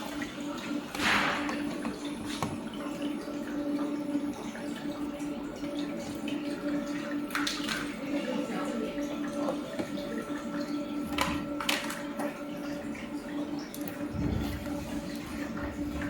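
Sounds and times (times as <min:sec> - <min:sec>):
water splashing and dripping: 0:00.0 - 0:16.0
low electric hum: 0:01.4 - 0:16.0.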